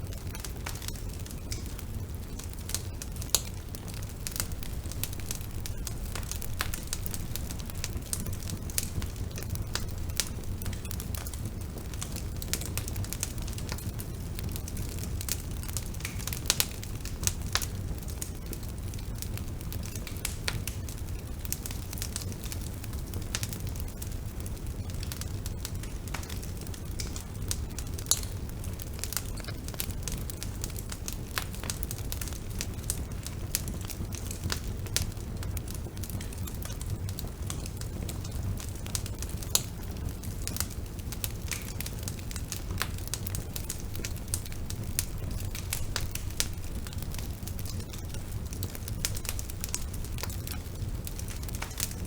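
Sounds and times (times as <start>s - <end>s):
bonfire crackling: 0.0s - 52.0s.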